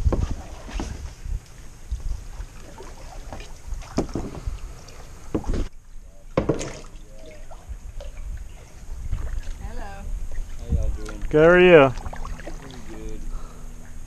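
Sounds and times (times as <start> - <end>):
wind rumble on microphone: 0.0 - 5.7, 7.4 - 14.0
paddle splashing in water: 0.0 - 14.0.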